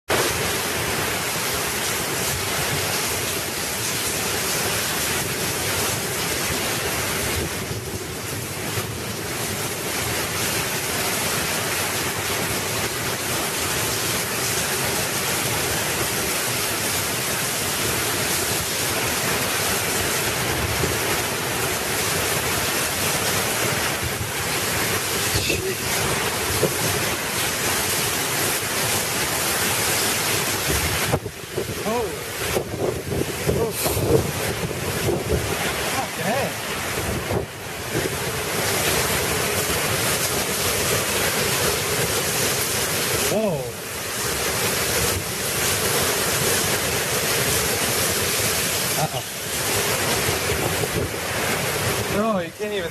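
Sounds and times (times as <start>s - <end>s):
wind: 0.0s - 52.9s
heavy rain downpour: 0.1s - 52.9s.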